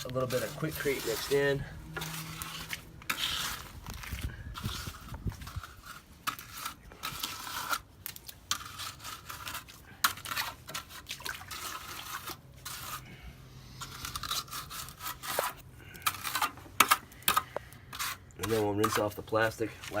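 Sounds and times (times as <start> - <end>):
hand smoothing wet concrete: 0.0 - 20.0.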